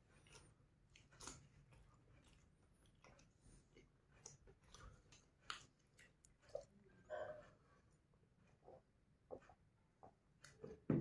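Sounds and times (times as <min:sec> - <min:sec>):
faint chewing: 0:00.0 - 0:10.9.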